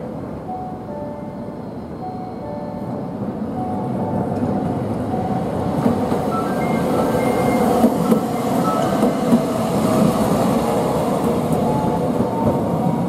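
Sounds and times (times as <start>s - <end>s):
tram wheels on rails: 0.0s - 13.0s.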